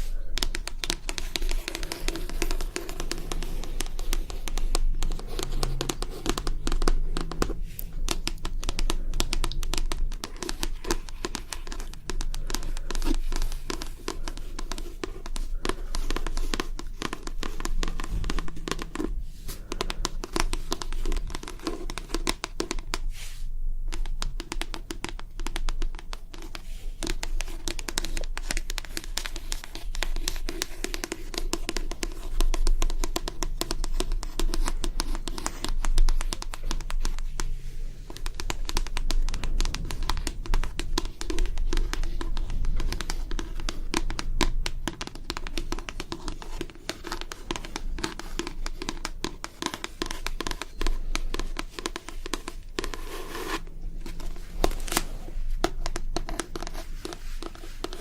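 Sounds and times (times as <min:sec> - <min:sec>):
fast small taps and scratches: 0:00.0 - 0:58.0.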